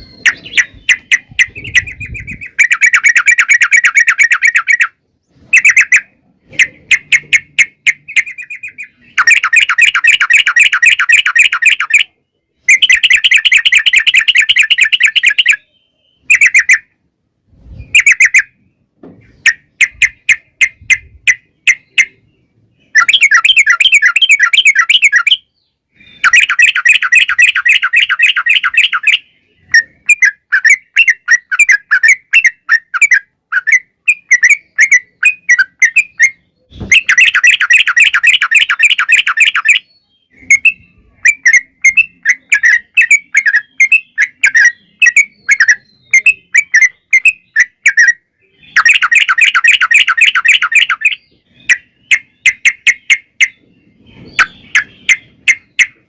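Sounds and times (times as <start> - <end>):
bird chirping notes: 0.0 - 56.0.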